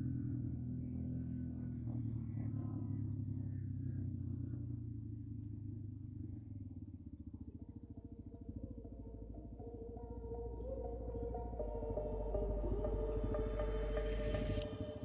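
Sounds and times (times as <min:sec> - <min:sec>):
quad bike engine idling: 0:00.0 - 0:15.0.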